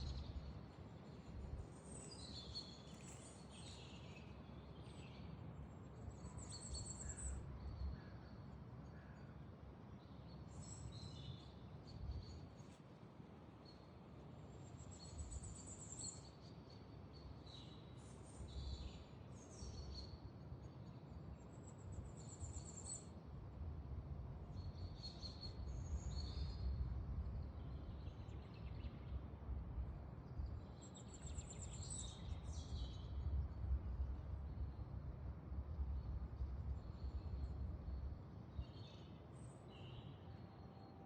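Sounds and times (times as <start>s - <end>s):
songbirds singing: 0.0s - 9.4s, 14.6s - 23.1s, 24.5s - 29.5s, 30.2s - 40.8s.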